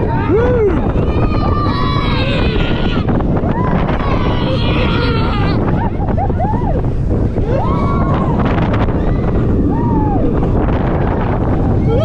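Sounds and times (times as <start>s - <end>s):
riders whooping: 0.0s - 12.0s
wind buffeting microphone: 0.0s - 12.0s.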